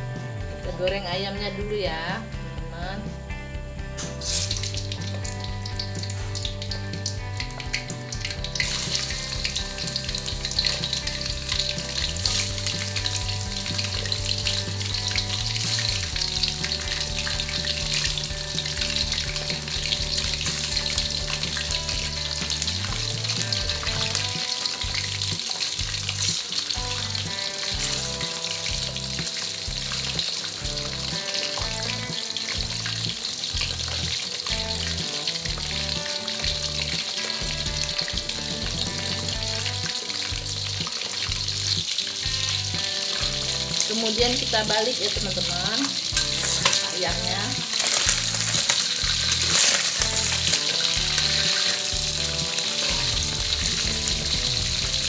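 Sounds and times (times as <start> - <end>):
chicken deep-frying in oil: 4.0 - 55.0.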